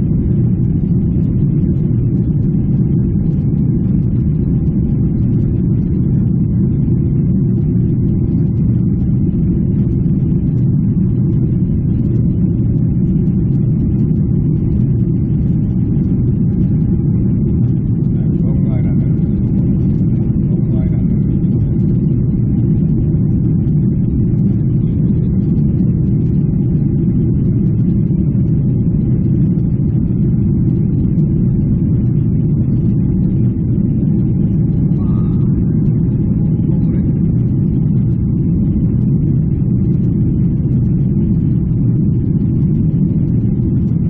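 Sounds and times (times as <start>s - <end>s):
jet engines droning: 0.0s - 44.0s.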